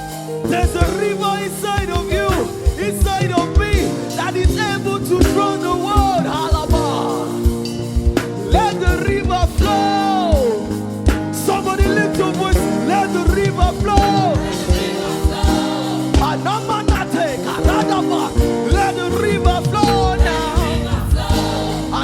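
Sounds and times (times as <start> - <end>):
keyboard chords: 0.0 - 22.0.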